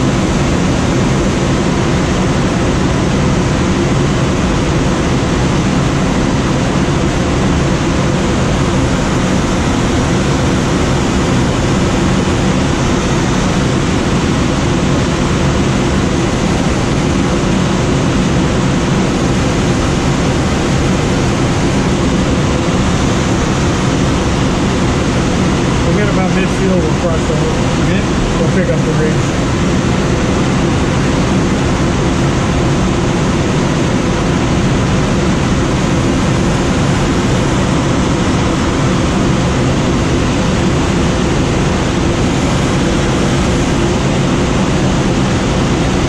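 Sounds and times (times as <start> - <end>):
wind rushing in a cockpit: 0.0 - 46.0.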